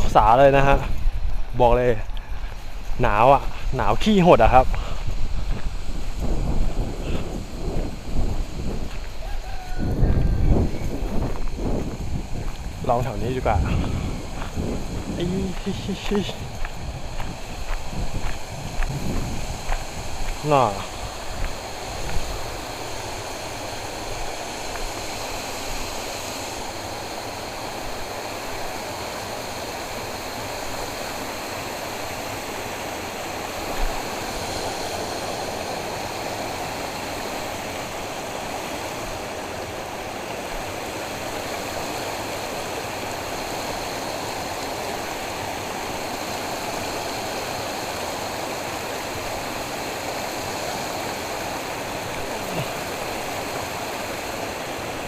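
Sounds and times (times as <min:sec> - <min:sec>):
water rushing in a canal: 0:01.6 - 0:55.0.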